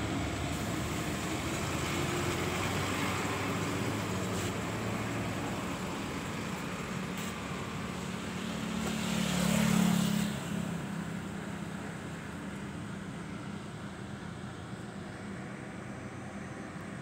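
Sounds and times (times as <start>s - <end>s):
vehicle interior running noise: 0.0s - 17.0s.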